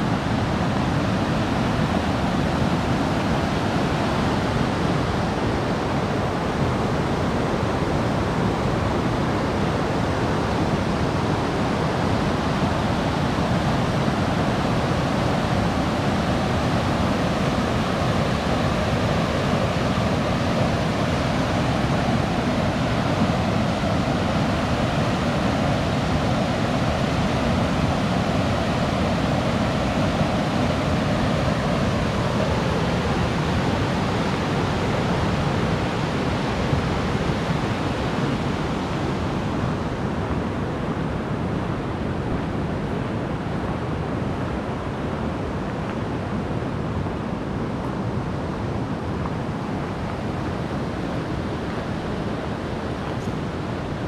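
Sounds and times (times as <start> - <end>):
whitewater rapids roaring: 0.0 - 54.0.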